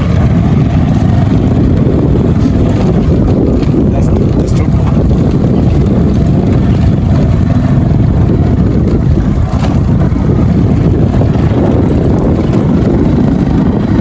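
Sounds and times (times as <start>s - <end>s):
motorbike engine running: 0.0s - 14.0s
wind rumble on microphone: 0.0s - 14.0s.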